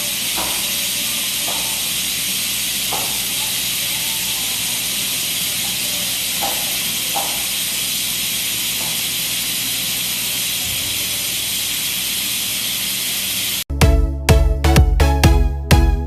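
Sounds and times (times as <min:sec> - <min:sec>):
welding arc hissing: 0:00.0 - 0:13.7.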